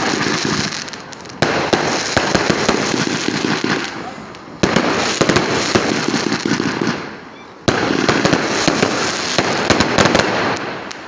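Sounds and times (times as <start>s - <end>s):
firework cake crackling and popping: 0.0s - 11.0s.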